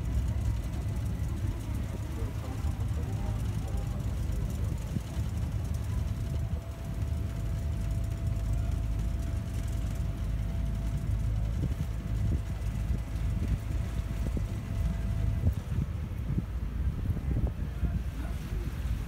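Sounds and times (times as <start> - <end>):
boat motor running: 0.0 - 19.0.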